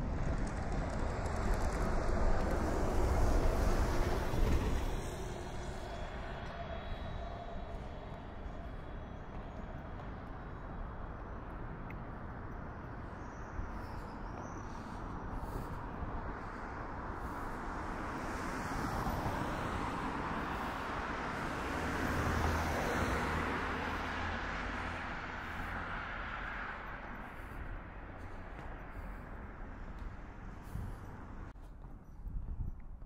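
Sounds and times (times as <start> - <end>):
road traffic noise: 0.0 - 32.1.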